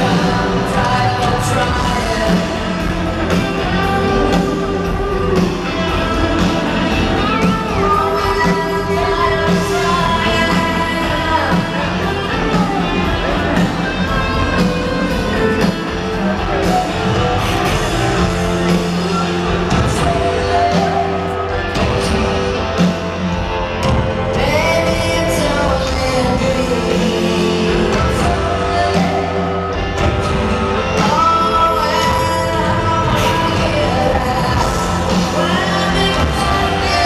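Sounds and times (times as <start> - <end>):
drums: 0.0 - 37.0
electric guitar: 0.0 - 37.0
woman singing: 0.0 - 37.0.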